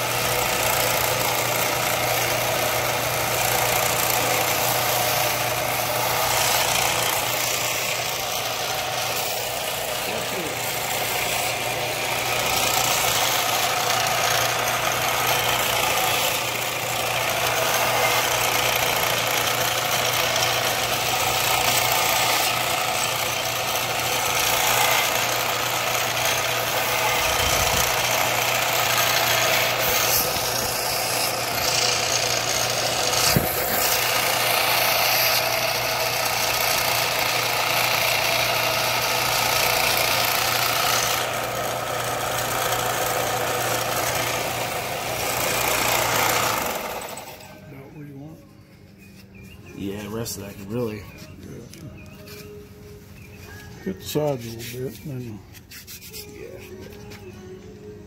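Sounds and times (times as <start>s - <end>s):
belt sander grinding: 0.0s - 47.9s, 53.2s - 57.2s.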